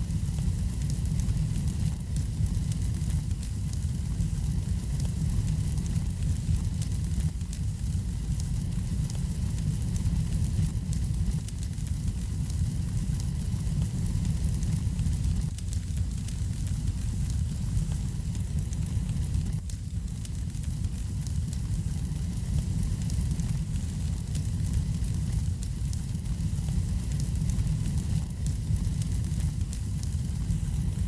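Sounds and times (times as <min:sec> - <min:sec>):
wood fire burning: 0:00.0 - 0:31.0.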